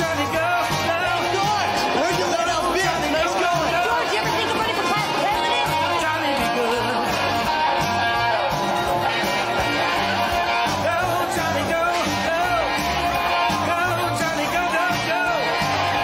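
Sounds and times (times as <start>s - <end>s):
rock song with singing and guitar: 0.0s - 16.0s.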